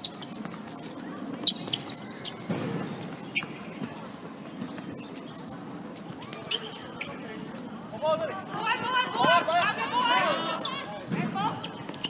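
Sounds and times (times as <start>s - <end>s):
murmur of voices: 0.0s - 12.0s
sports shoes squeaking on court: 0.0s - 12.0s.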